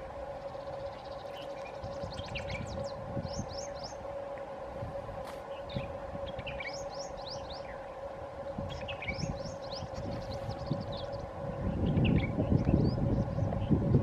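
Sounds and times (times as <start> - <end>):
steady droning hum: 0.0 - 14.0
birds chirping: 0.1 - 4.6, 5.4 - 13.8.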